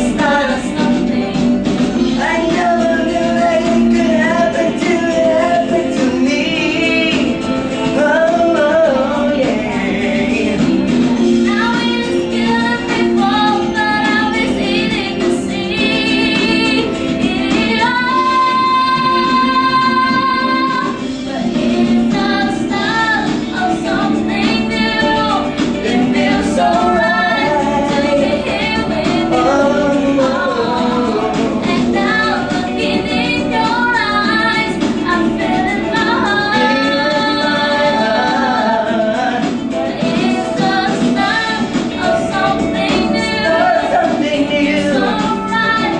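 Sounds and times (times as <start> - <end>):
pop song with female vocal: 0.0 - 45.9.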